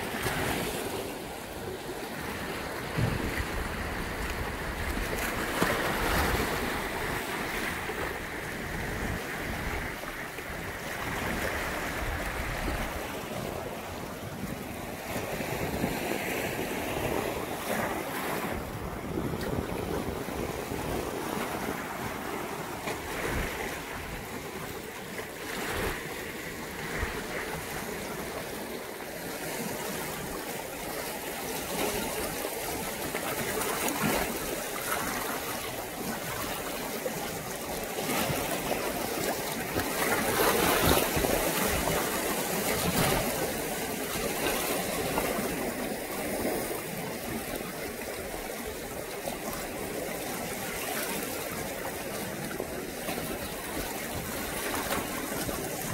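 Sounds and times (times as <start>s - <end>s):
sea water washing over rocks: 0.0s - 55.9s.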